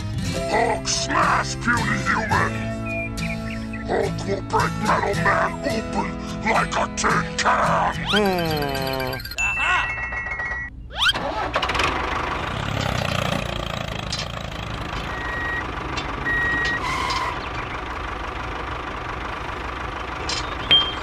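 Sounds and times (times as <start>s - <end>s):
tractor engine running: 0.0s - 9.4s, 10.0s - 21.0s.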